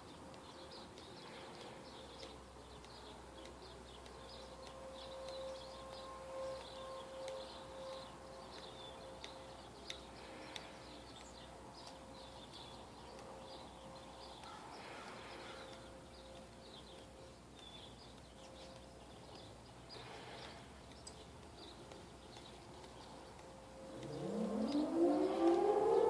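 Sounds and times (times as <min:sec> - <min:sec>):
faint warning siren: 0:00.0 - 0:20.6, 0:21.4 - 0:26.0
birds chirping: 0:00.0 - 0:26.0.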